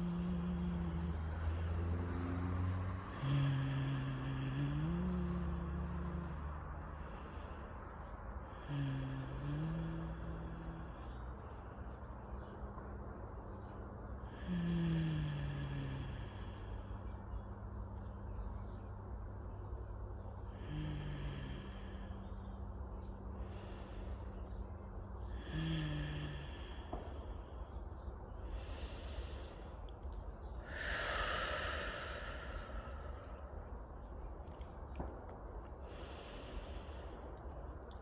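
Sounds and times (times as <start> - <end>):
slow deep breathing: 0.0 - 38.0.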